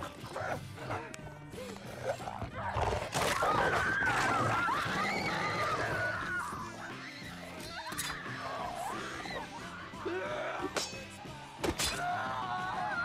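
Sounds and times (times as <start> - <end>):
film music: 0.0 - 13.0.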